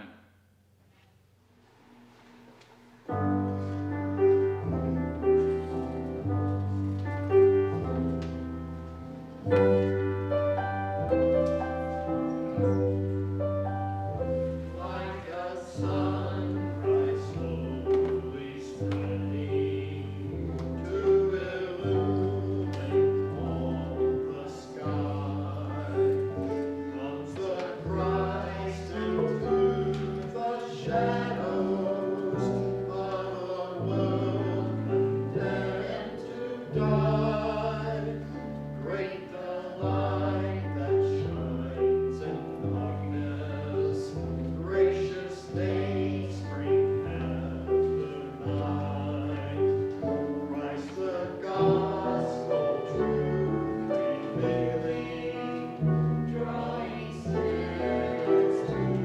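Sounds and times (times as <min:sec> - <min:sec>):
voices singing a hymn: 0:03.0 - 0:59.0
instrumental accompaniment: 0:03.1 - 0:59.0.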